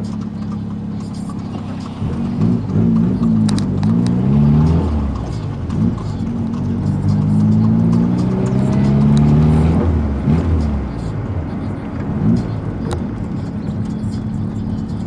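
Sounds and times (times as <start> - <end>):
car engine driving: 0.0 - 15.0.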